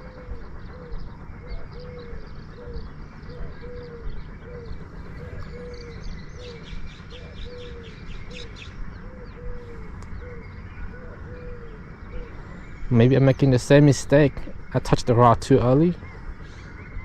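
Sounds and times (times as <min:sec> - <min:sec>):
bird low repeated call: 0:00.0 - 0:17.0
low background rumble: 0:00.0 - 0:17.0
small birds chirping: 0:00.0 - 0:17.0.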